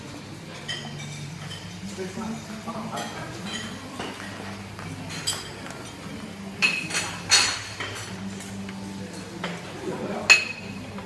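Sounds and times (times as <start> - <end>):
voices in background: 0.0 - 11.0
dishes and cutlery clinking: 0.3 - 11.0.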